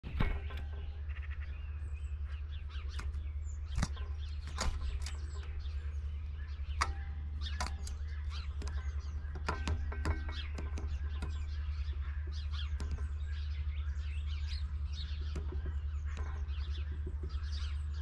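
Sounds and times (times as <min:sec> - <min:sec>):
high bird chirps: 0:00.0 - 0:18.0
steady low rumble: 0:00.0 - 0:18.0
woodpecker knocking: 0:00.0 - 0:18.0.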